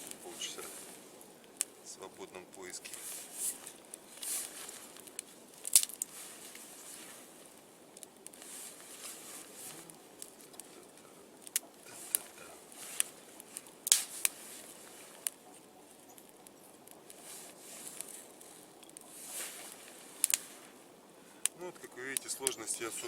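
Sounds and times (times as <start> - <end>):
campfire crackling and snapping: 0.0 - 23.0.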